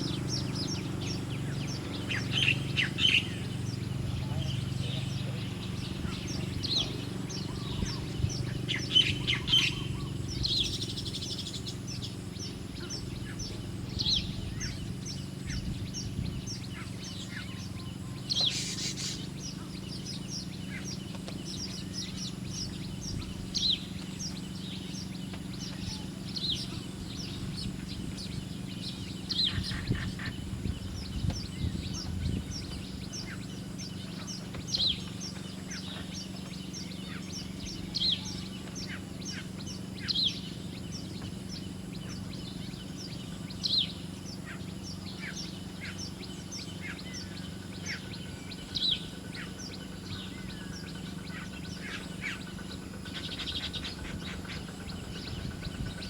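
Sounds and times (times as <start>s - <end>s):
small songbirds chirping: 0.0s - 56.0s
steady low hum: 0.0s - 56.0s.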